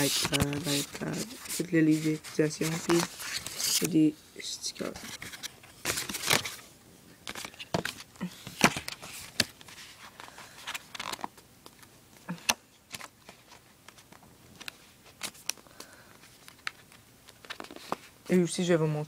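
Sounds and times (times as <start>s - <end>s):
paper rustling: 0.0s - 4.1s, 4.8s - 11.9s, 12.9s - 18.5s.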